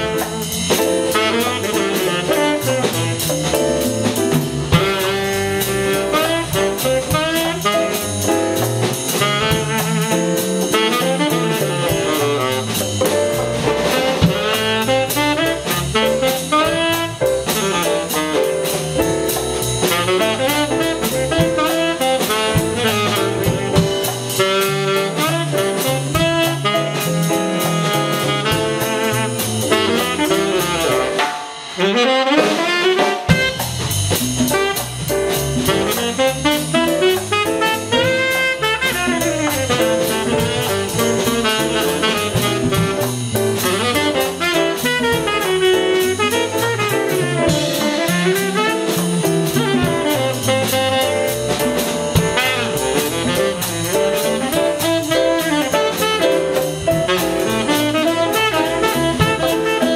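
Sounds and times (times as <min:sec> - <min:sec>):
jazz combo playing: 0:00.0 - 0:59.9
tenor saxophone melody: 0:00.0 - 0:59.9.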